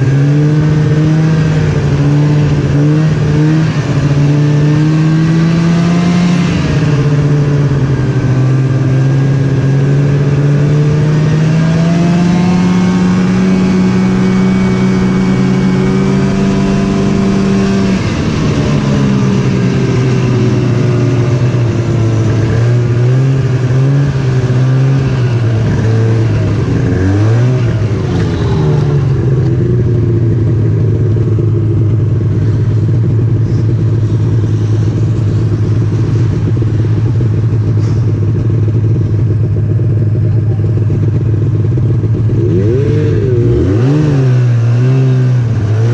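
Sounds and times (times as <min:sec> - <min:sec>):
snowmobile engine running: 0:00.0 - 0:45.9.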